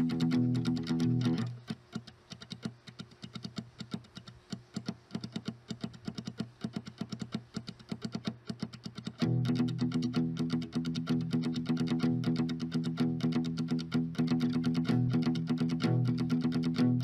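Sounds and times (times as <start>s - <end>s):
fast ticking percussion: 0.0s - 17.0s.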